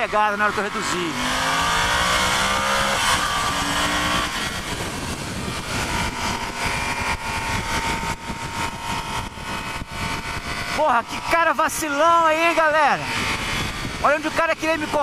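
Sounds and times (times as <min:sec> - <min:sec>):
motorcycle engine accelerating: 0:00.0 - 0:15.0
wind rushing over microphone: 0:00.0 - 0:15.0.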